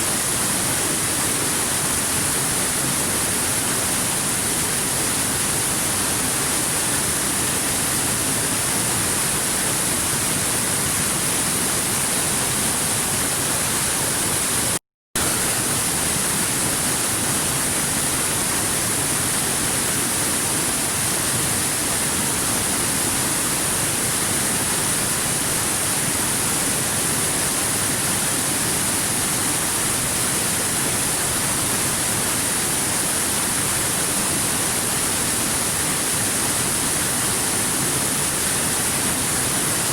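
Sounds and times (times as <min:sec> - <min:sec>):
water rushing over rocks: 0:00.1 - 0:39.9.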